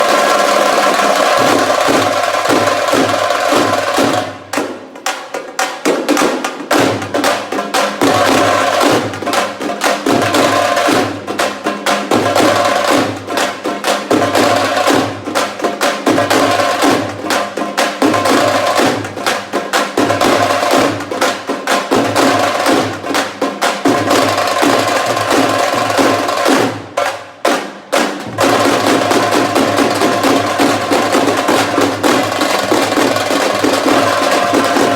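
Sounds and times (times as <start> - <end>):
fast wood-block-like drumming: 0.0 - 34.9.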